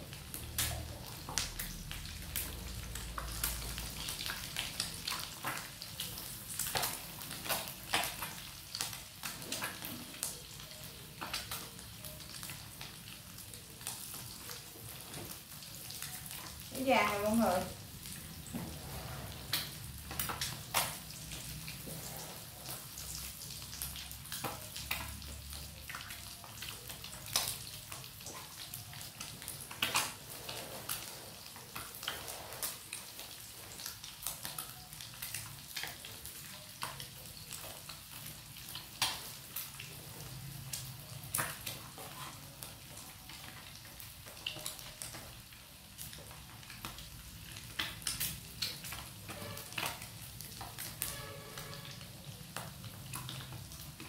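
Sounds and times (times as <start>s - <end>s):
eggs deep-frying in hot oil: 0.0s - 54.0s
oil popping and crackling: 0.0s - 54.0s.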